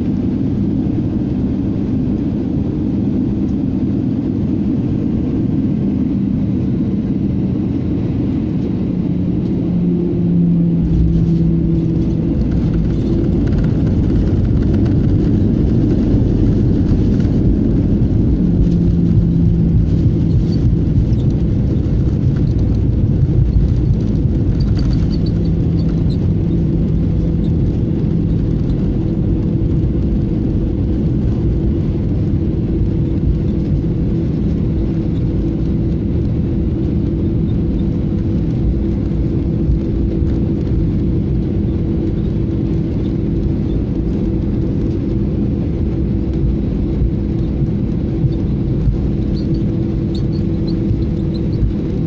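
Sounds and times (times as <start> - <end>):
aircraft cabin rumble: 0.0 - 52.0
low hum: 0.0 - 52.0.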